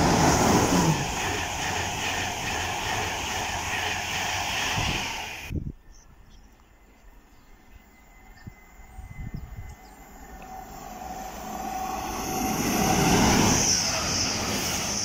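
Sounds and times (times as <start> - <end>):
thin whine: 0.0 - 15.0
train passing at speed: 0.0 - 15.0.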